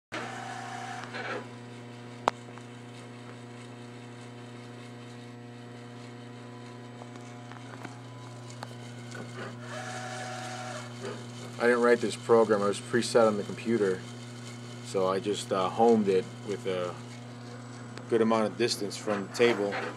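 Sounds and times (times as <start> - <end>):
milling machine electrical hum: 0.1 - 19.9.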